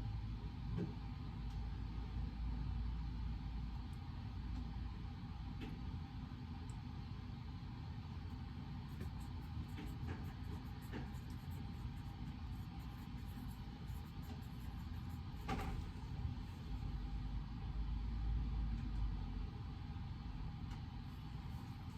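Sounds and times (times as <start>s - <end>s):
low room rumble: 0.0s - 21.9s.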